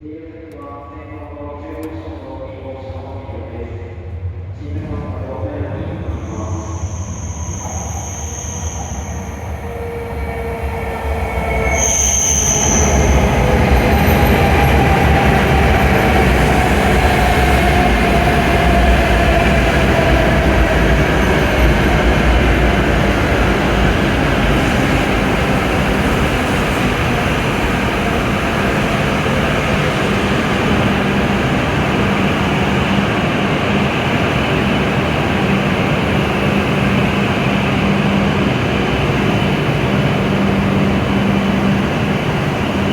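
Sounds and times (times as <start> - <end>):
train rushing into station: 0.0 - 42.9.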